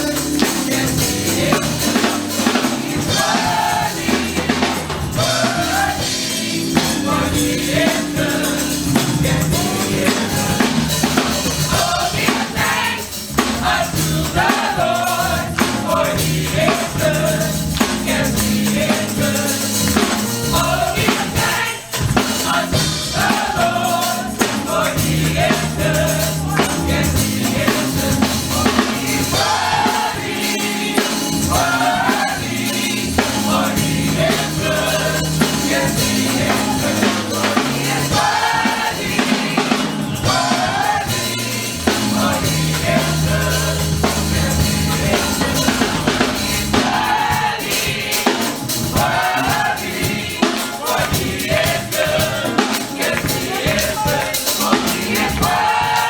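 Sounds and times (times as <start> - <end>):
bass notes: 0.0 - 50.4, 51.1 - 56.0
drums: 0.0 - 56.0
gospel choir singing: 0.0 - 56.0
tambourine: 0.0 - 56.0.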